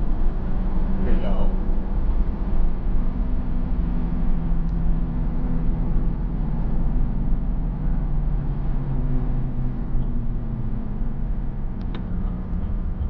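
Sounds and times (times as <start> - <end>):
car engine and road noise: 0.0 - 13.0
constant low drone: 0.0 - 13.0.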